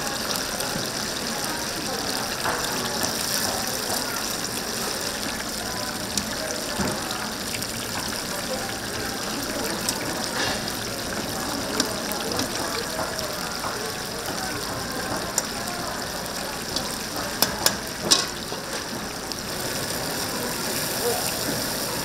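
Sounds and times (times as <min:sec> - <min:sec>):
chickens sizzling in oil: 0:00.0 - 0:22.0.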